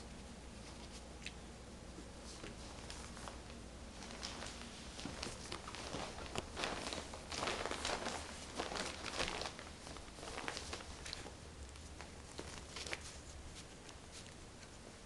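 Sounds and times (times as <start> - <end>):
puppies scuffling on bedding: 1.9 - 15.0.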